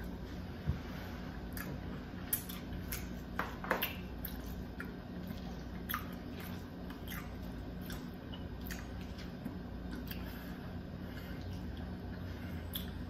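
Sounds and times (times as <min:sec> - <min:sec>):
faint low hum: 0:00.0 - 0:13.0
wet chewing mouth sounds: 0:01.4 - 0:13.0.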